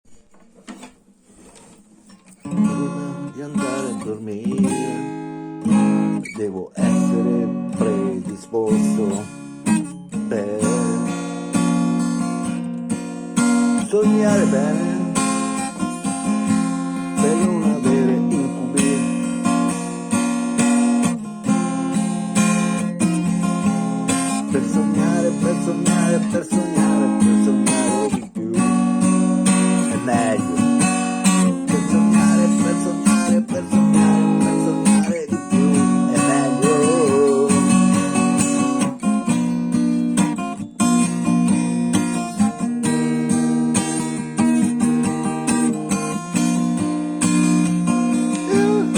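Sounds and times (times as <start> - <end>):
acoustic guitar strumming: 0.0 - 48.9.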